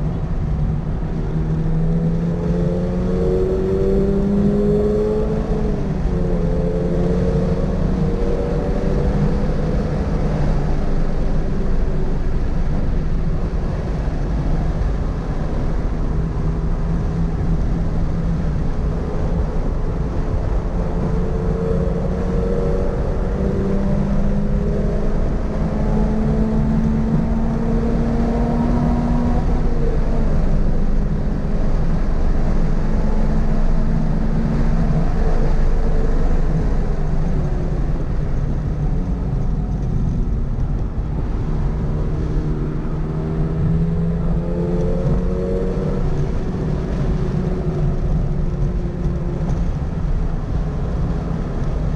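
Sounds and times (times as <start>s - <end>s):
car engine running hard: 0.0s - 51.9s
tyre and road noise: 0.0s - 51.9s.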